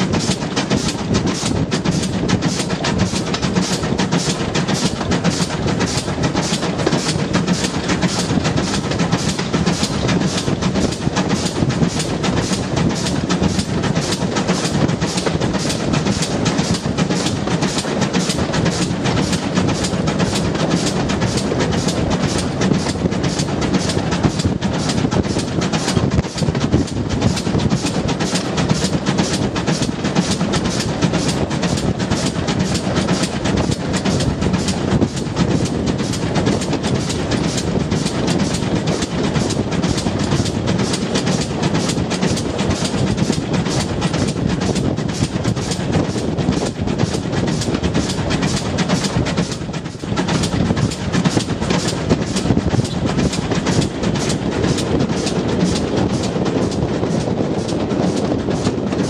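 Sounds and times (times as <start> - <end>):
steam locomotive beat: 0.0 - 59.0
wheel and rail noise: 0.0 - 59.0.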